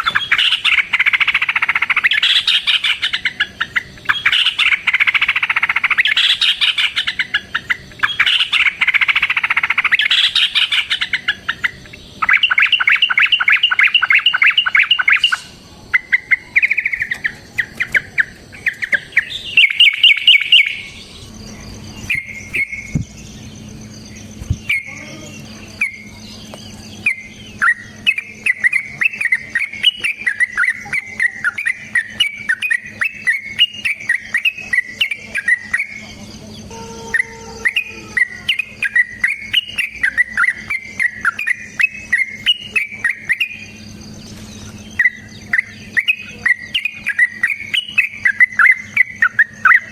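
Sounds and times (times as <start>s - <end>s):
bird song with rattling trills: 0.0s - 49.9s.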